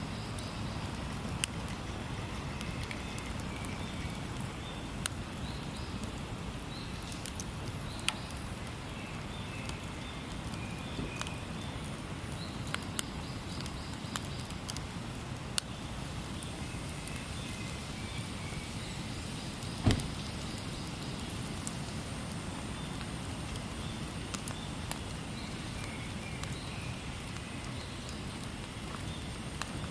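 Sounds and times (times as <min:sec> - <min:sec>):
fire low rumble: 0:00.0 - 0:29.9
firewood crackling and popping: 0:00.0 - 0:29.9.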